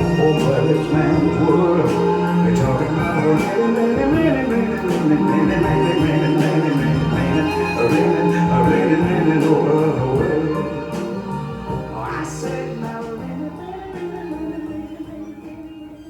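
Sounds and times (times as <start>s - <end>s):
man singing: 0.0s - 15.7s
slow soul ballad: 0.0s - 16.0s.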